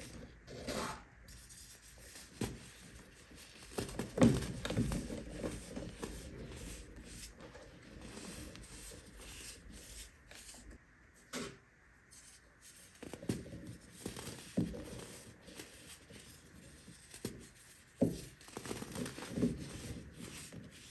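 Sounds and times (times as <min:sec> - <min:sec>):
baking soda crunching and rubbing: 0:01.3 - 0:10.7, 0:12.1 - 0:20.9.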